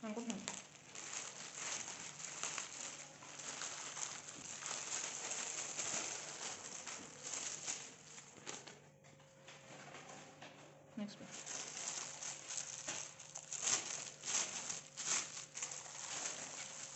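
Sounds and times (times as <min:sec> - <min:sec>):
thin plastic rustling and crinkling: 0:00.0 - 0:08.8, 0:11.2 - 0:16.9.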